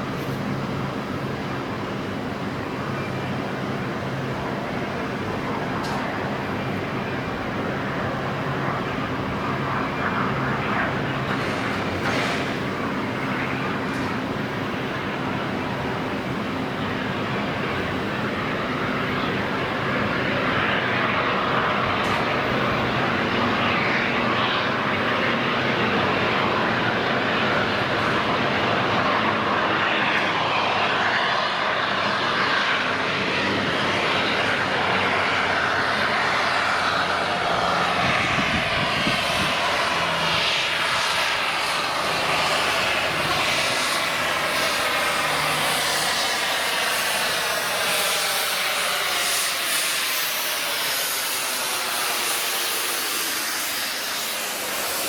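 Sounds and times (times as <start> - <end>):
train passing roar: 0.0 - 55.0.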